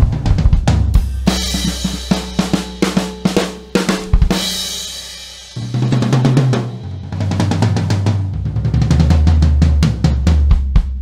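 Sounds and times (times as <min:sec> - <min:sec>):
drum fill on toms: 0:00.0 - 0:11.0.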